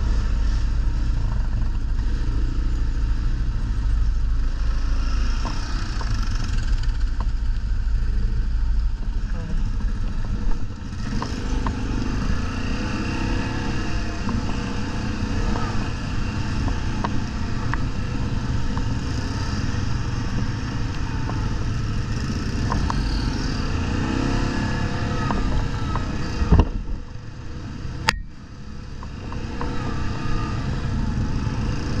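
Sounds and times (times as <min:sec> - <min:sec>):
quad bike engines revving: 0:00.0 - 0:32.0.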